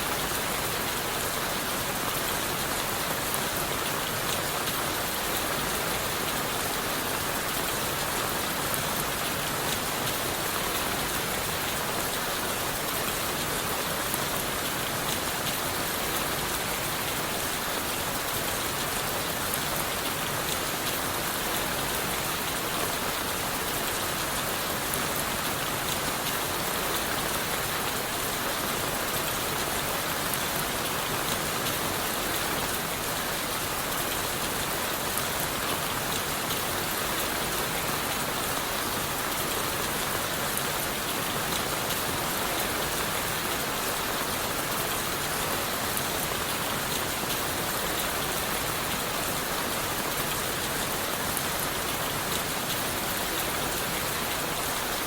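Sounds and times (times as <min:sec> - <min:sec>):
rain on leaves and wood: 0:00.0 - 0:55.0.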